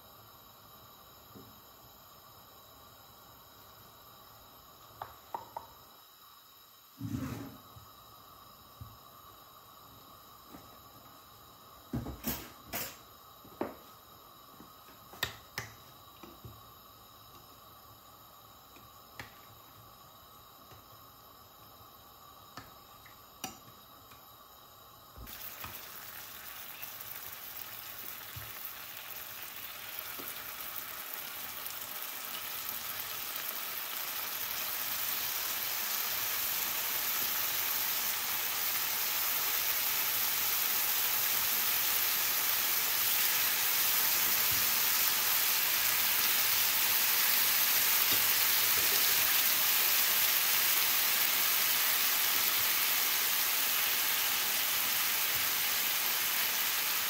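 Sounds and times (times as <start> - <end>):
chicken sizzling in hot oil: 0.0 - 57.0.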